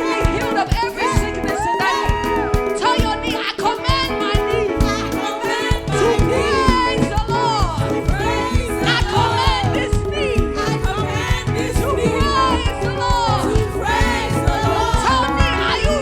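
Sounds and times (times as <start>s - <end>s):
gospel singing with band: 0.0s - 16.0s
steady drum beat: 0.0s - 16.0s.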